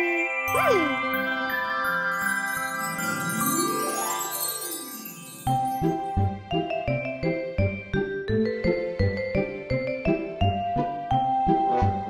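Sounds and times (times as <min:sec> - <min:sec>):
cheerful music with struck notes: 0:00.5 - 0:12.0.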